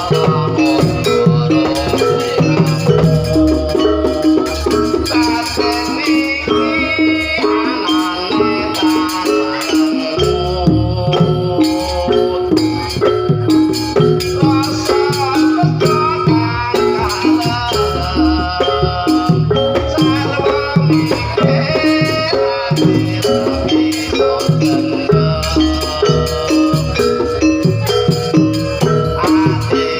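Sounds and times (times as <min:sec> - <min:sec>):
repeating pitched melody: 0:00.0 - 0:29.9
steady percussion with rattles: 0:00.0 - 0:29.9.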